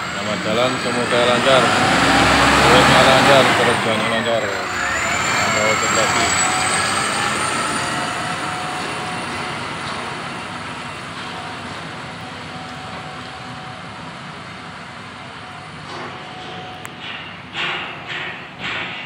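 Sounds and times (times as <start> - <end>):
truck engine driving away: 0.0 - 16.8
road noise: 0.0 - 17.6.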